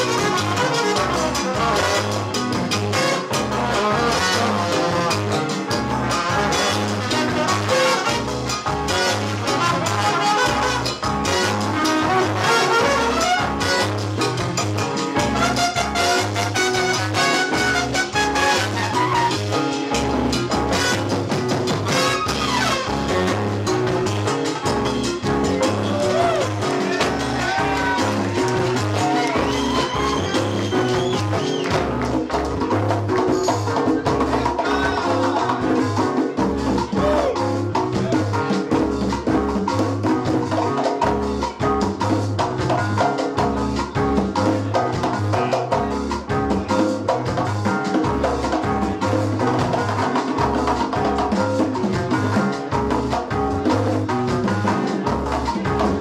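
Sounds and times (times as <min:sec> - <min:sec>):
drum kit: 0:00.0 - 0:56.0
electric bass: 0:00.0 - 0:56.0
hand percussion: 0:00.0 - 0:56.0.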